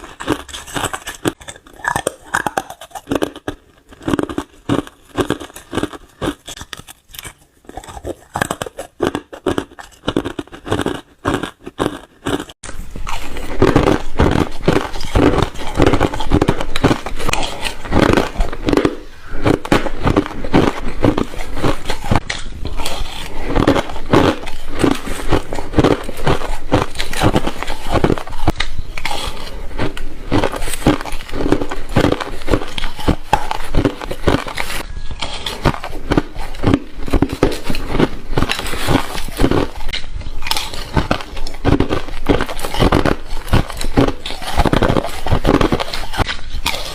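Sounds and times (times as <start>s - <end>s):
chewing ice crunches: 0.0s - 46.9s.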